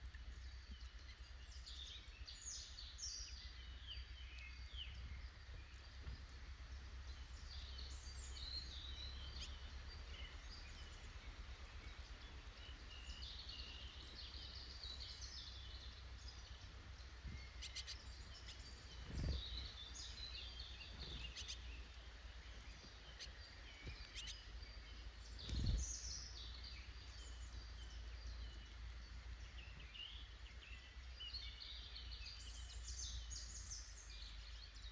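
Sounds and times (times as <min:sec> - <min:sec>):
birds singing and calling: 0:00.0 - 0:34.9.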